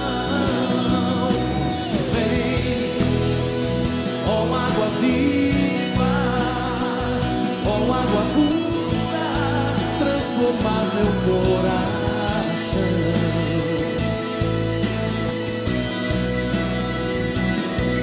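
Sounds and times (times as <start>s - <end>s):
person singing: 0.0s - 14.6s
electric guitar: 0.0s - 18.0s
live band playing: 0.0s - 18.0s.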